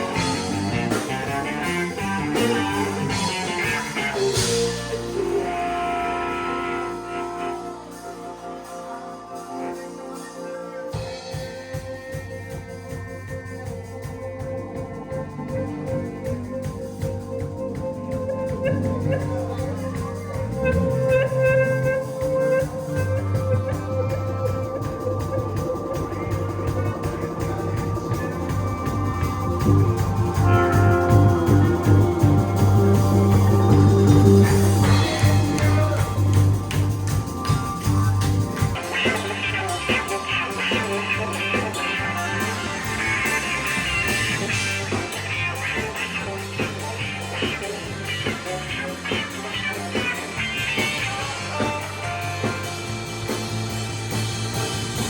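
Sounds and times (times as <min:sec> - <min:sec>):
bass line: 0:00.0 - 0:55.0
electric guitar: 0:00.0 - 0:55.0
instrumental band music: 0:00.0 - 0:55.0.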